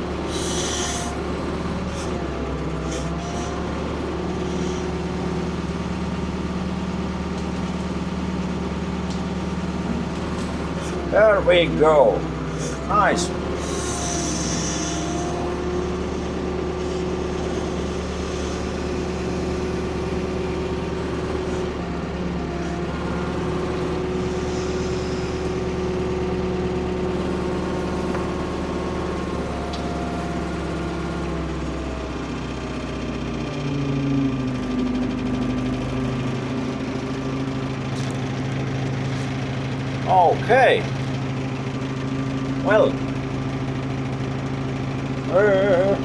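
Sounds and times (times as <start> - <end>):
excavator engine running: 0.0 - 46.0.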